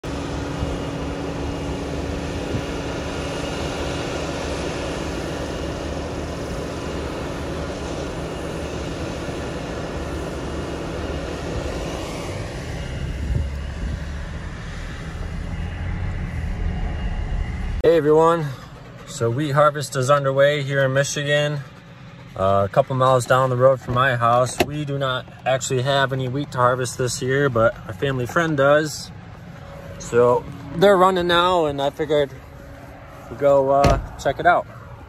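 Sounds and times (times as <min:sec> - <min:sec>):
combine harvester droning: 0:00.0 - 0:35.0.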